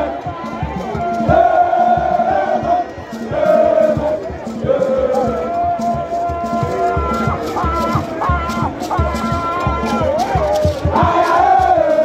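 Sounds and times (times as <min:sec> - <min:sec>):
crowd chanting and singing: 0:00.0 - 0:12.0
low drumbeat: 0:00.0 - 0:12.0.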